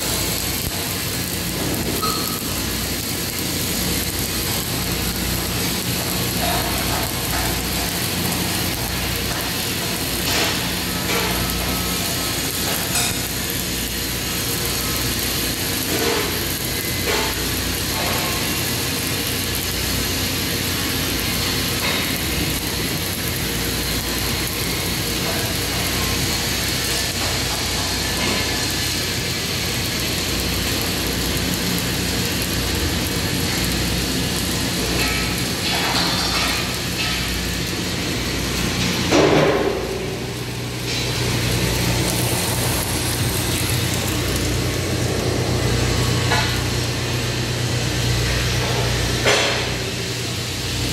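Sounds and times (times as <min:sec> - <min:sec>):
low electrical hum: 0:00.0 - 0:50.9
welding arc crackling: 0:00.0 - 0:50.9.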